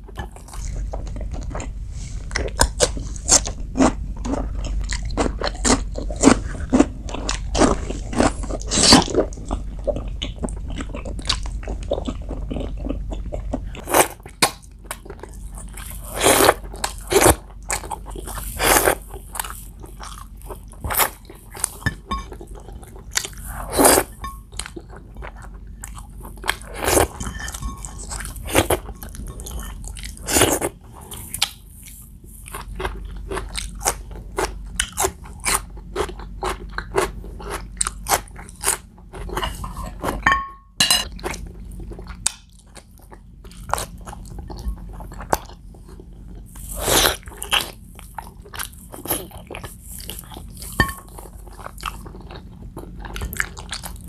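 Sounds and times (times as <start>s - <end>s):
person chewing wetly: 0.0s - 54.0s.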